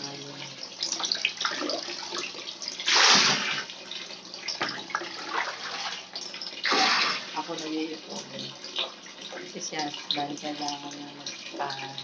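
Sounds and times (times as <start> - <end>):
dipper scooping and pouring water: 0.0 - 12.0
water sloshing in a plastic tub: 0.0 - 12.0.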